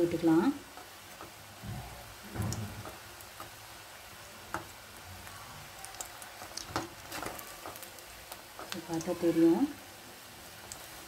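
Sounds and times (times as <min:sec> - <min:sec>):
oil sizzling while deep-frying: 0:00.0 - 0:11.0.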